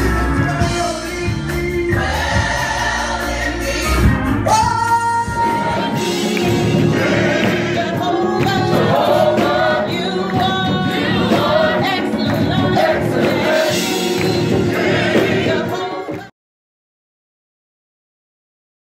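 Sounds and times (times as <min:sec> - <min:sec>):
gospel choir singing with music: 0:00.0 - 0:16.3.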